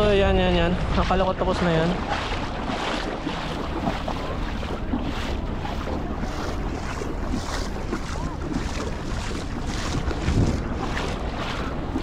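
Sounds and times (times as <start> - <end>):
low rumble: 0.0 - 12.0
sea surf on a beach: 0.0 - 12.0
wind buffeting microphone: 0.0 - 12.0.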